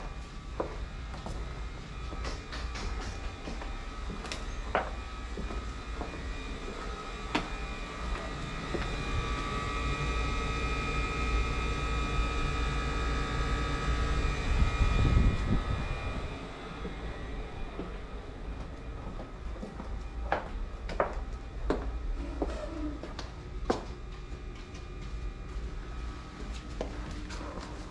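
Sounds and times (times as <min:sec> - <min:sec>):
steady high whine: 0:00.0 - 0:27.9
steady mechanical hum: 0:00.0 - 0:27.9.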